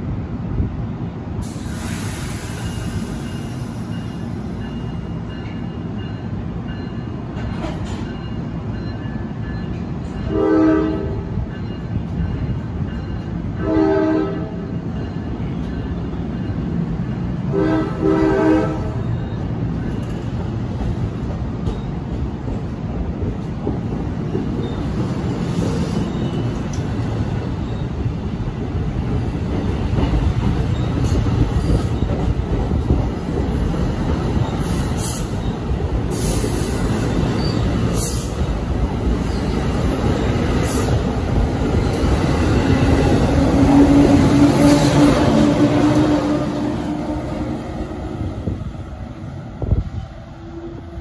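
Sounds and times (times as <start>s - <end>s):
electric locomotive hum: 0.0s - 51.0s
train wheels rumbling on rail: 0.0s - 51.0s.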